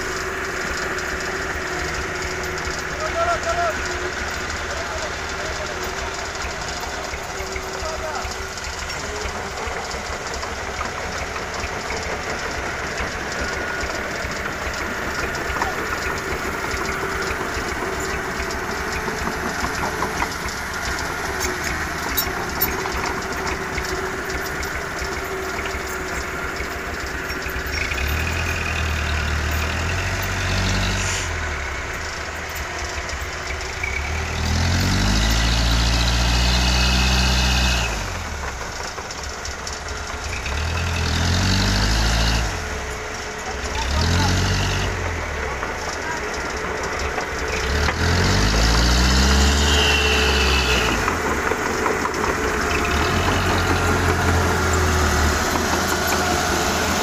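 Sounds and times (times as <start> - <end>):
diesel truck engine idling: 0.0 - 57.0
engine revving: 0.0 - 57.0.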